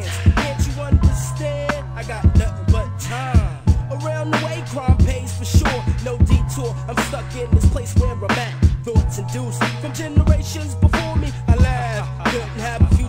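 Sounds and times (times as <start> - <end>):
hip hop backing music: 0.0 - 13.0.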